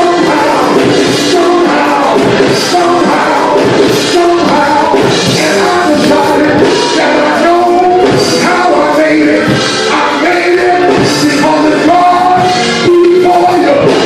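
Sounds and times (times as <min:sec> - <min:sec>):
man singing into microphone: 0:00.0 - 0:14.0
musical backing: 0:00.0 - 0:14.0.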